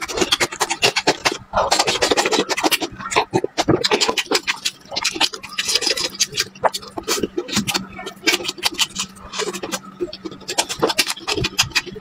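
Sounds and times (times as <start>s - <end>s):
chewing crunchy pepper: 0.0s - 12.0s
wet mouth clicks: 0.0s - 12.0s.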